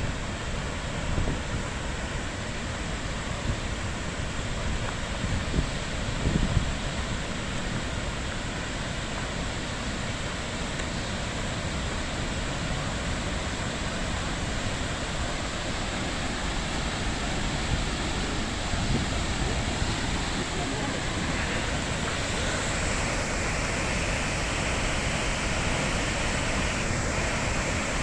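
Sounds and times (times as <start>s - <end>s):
wind gusts on microphone: 0.0s - 9.0s, 12.0s - 28.0s
waterfall rushing: 0.0s - 28.0s.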